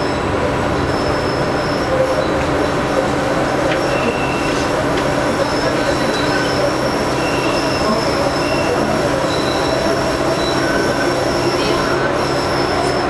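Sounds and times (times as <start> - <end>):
rail car rumble: 0.0 - 13.0.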